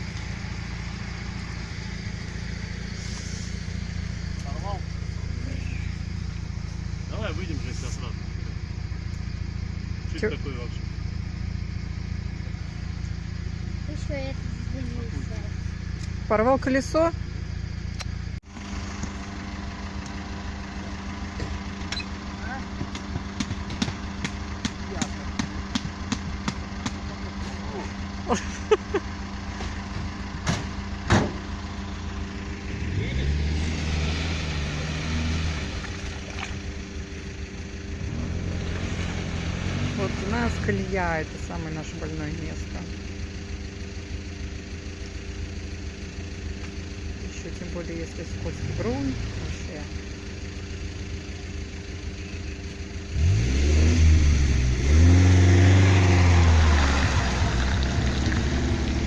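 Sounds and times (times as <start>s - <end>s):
engine revving: 0.0s - 45.4s, 46.0s - 51.3s, 52.0s - 59.0s
car engine idling: 0.0s - 59.0s.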